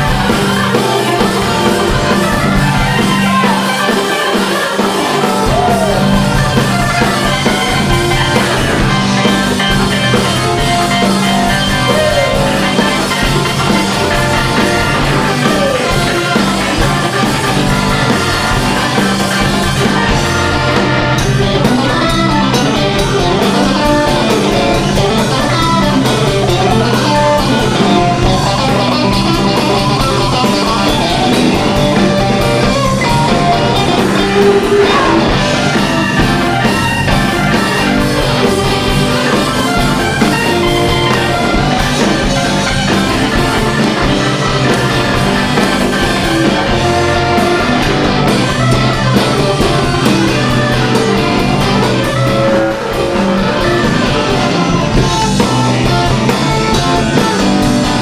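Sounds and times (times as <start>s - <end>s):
bass line: 0.0s - 58.0s
drum kit: 0.0s - 58.0s
electric guitar: 0.0s - 58.0s
live band playing rock groove: 0.0s - 58.0s.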